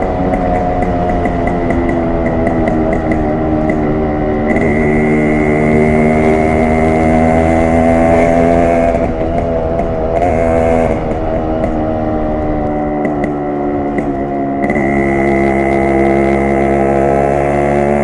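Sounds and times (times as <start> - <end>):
two-stroke motorcycle engine running: 0.0 - 18.0.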